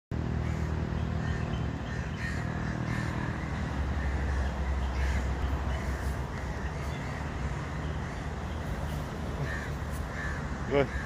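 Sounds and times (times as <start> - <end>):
steady low rumble: 0.1 - 10.7
crows cawing: 0.4 - 11.0.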